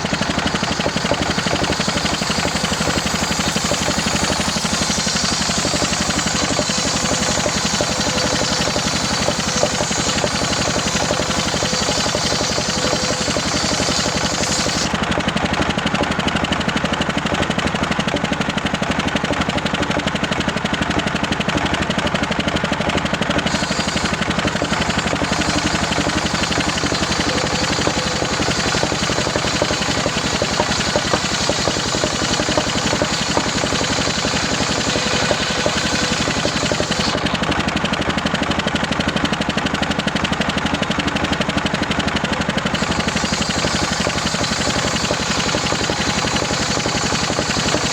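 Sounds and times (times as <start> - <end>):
engine-driven circular saw running: 0.0 - 47.9.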